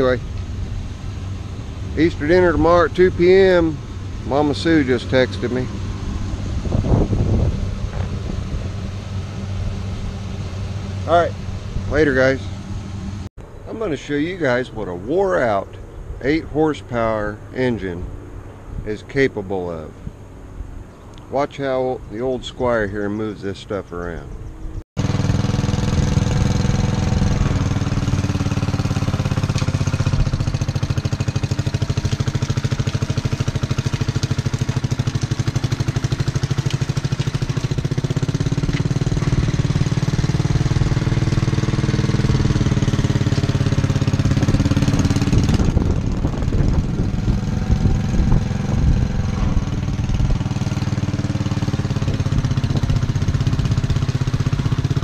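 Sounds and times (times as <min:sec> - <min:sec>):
garden tractor engine running: 0:00.0 - 0:14.6, 0:25.0 - 0:55.0.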